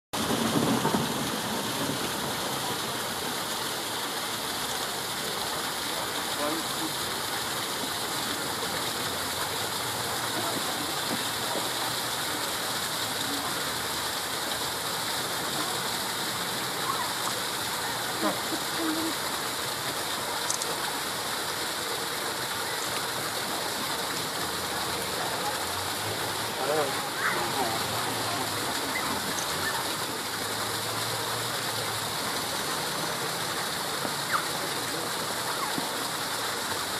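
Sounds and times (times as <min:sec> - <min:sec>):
waterfall cascading over rocks: 0:00.1 - 0:36.9.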